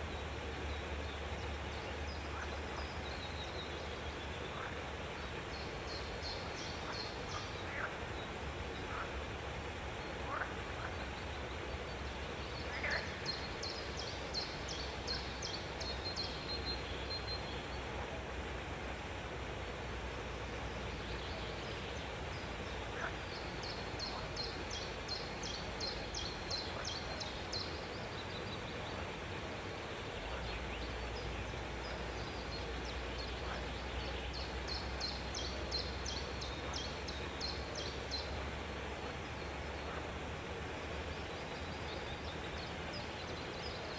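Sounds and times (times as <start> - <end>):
background hiss: 0.0 - 43.9.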